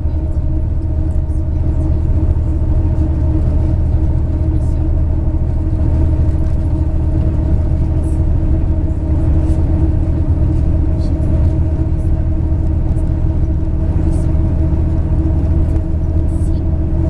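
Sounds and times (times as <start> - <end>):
diesel engine droning: 0.0 - 17.0
road noise: 0.0 - 17.0.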